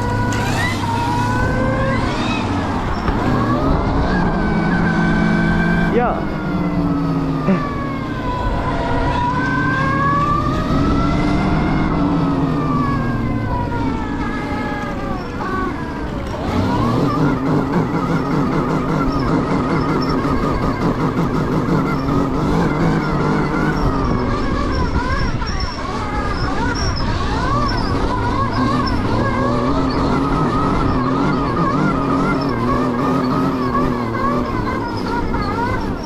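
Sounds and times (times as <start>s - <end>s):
electric motor whining: 0.0s - 36.0s
noisy rumble: 0.0s - 36.0s.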